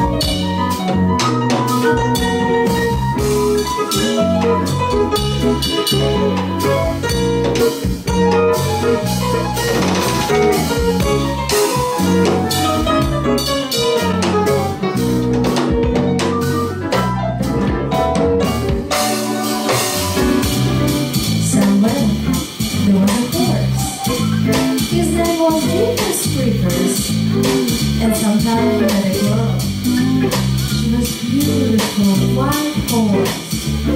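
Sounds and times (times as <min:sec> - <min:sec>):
drum kit: 0:00.0 - 0:33.9
electric bass: 0:00.0 - 0:33.9
electric guitar: 0:00.0 - 0:33.9.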